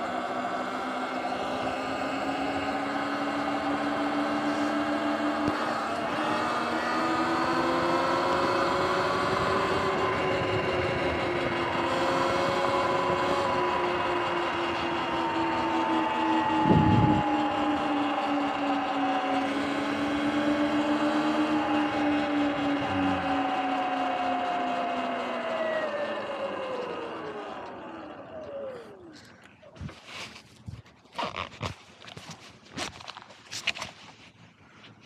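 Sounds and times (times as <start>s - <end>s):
electric motor whine: 0.0s - 29.5s.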